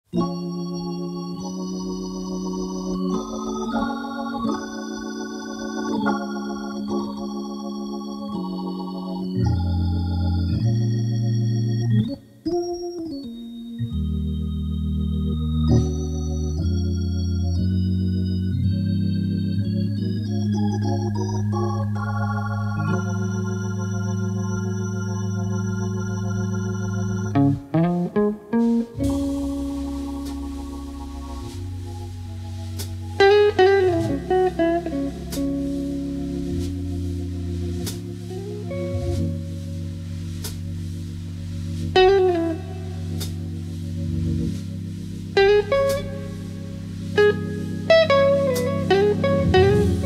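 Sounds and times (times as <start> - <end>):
blues organ chords: 0.1 - 50.0.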